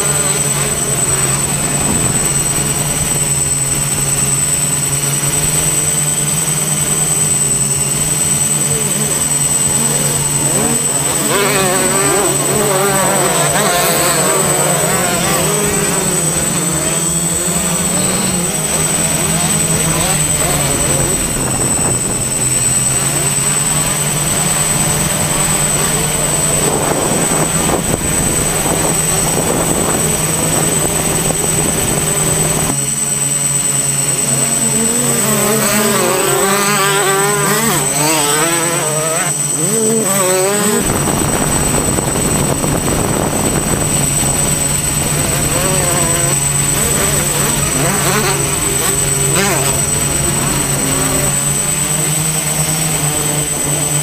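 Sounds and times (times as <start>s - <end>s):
drone propellers humming: 0.0s - 54.0s
wavering rising and falling tones: 0.0s - 54.0s.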